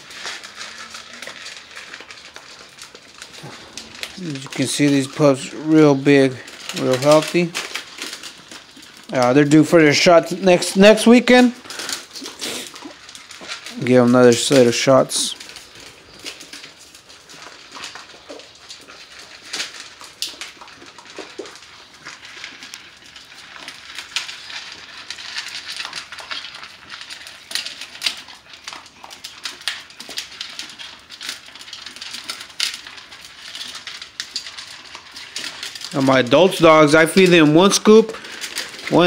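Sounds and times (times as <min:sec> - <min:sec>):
puppies crunching dry kibble: 0:00.0 - 0:39.0.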